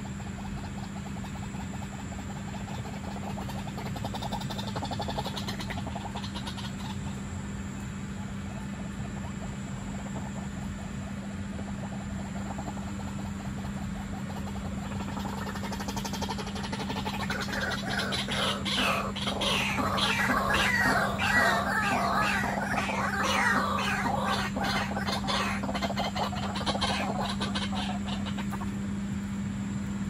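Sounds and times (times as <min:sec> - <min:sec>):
waterhens calling: 0:00.0 - 0:07.2, 0:11.7 - 0:28.8
steady low hum: 0:00.0 - 0:30.0.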